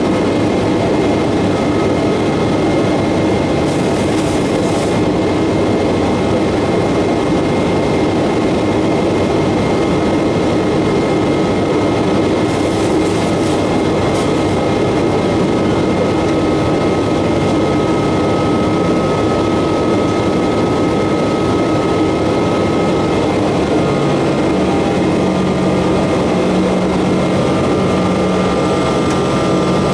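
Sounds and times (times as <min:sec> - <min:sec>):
jet engines running: 0:00.0 - 0:29.9.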